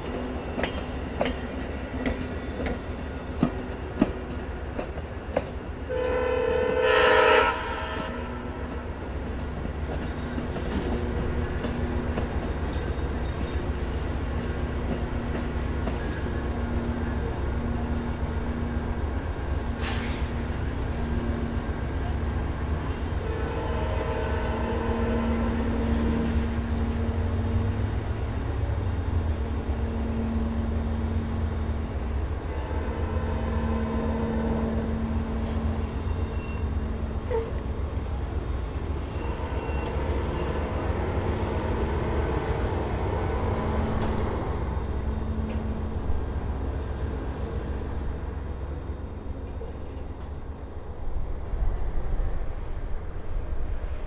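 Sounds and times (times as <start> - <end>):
diesel locomotive droning: 0.0 - 54.0.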